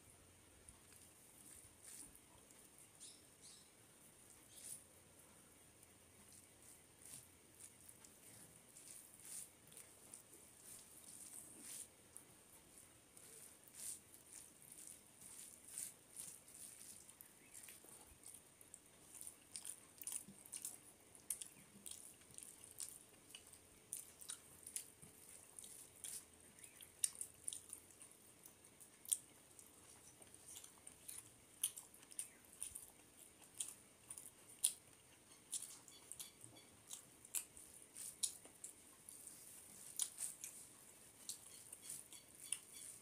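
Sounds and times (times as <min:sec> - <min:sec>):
chewing: 0:00.7 - 0:03.6, 0:04.2 - 0:43.0.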